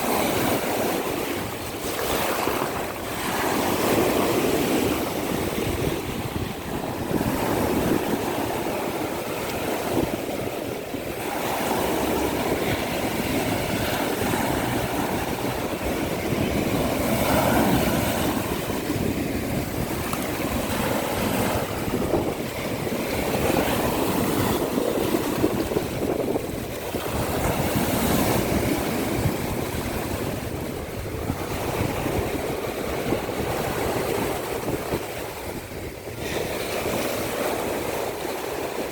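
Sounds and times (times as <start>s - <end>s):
surf breaking on shore: 0.0s - 38.9s
wind buffeting microphone: 0.0s - 38.9s.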